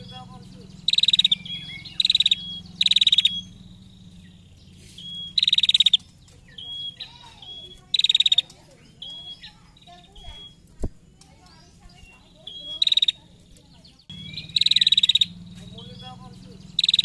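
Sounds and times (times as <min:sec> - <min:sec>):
bird chattering call: 0:00.0 - 0:17.0
thin whistled bird notes: 0:00.0 - 0:17.0.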